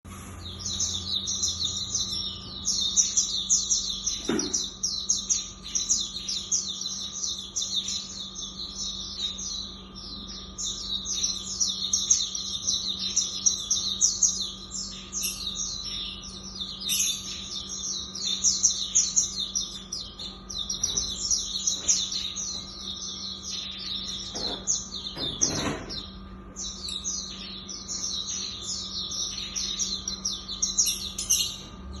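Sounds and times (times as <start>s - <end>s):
faint electrical hum: 0.0s - 32.0s
bird twittering song: 0.1s - 32.0s.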